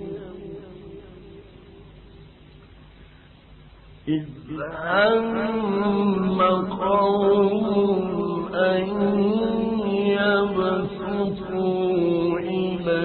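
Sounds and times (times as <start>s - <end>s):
man chanting melodically: 0.0s - 1.9s, 4.0s - 13.0s.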